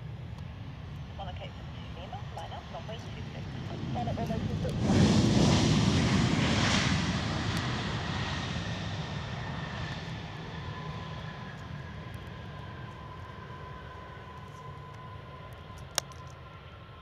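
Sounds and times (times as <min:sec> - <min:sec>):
high engine whine: 0:00.0 - 0:17.0
jet engines roaring: 0:00.0 - 0:17.0.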